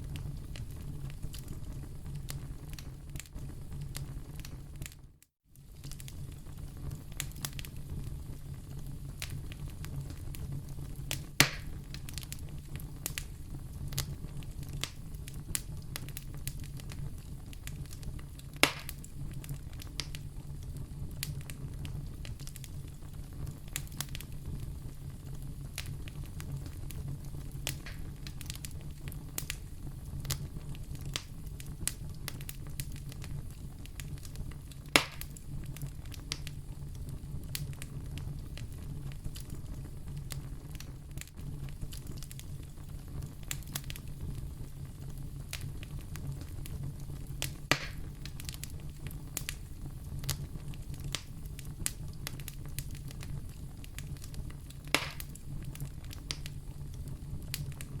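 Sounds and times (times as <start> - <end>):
loud fire pops: 0.0 - 5.0, 5.6 - 58.0
fire crackling: 0.0 - 58.0
fire low rumble: 0.0 - 58.0.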